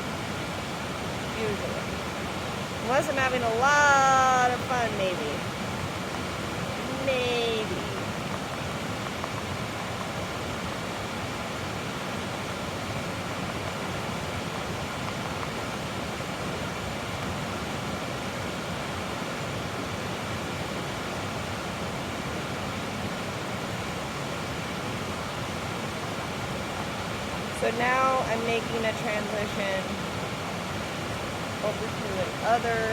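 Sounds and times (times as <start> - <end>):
creek water flowing: 0.0 - 32.9.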